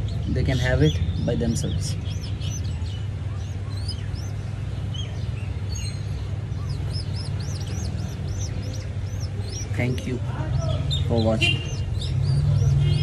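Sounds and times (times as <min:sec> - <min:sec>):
baby birds peeping: 0:00.0 - 0:13.0.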